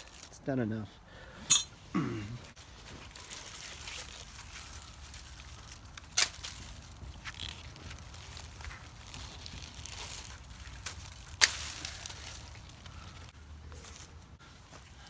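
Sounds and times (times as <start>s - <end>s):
dry leaves rustling: 0.0s - 0.4s, 2.6s - 15.0s.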